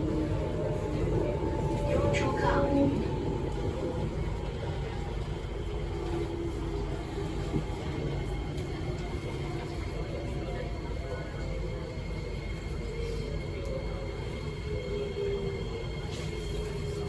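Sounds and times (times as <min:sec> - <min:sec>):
train carriage hum and rumble: 0:00.0 - 0:17.0.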